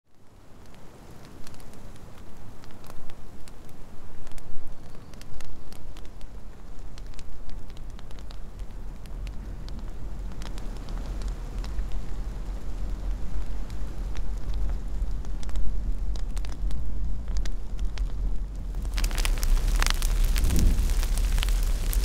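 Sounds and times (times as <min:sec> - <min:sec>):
low fire rumble: 0:00.1 - 0:22.0
wood fire crackling and popping: 0:00.1 - 0:22.0.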